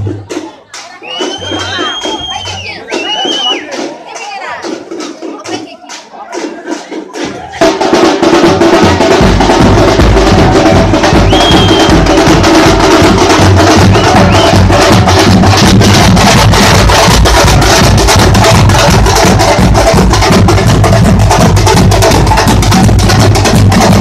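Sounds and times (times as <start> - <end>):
drums beating fast: 0.0 - 24.0.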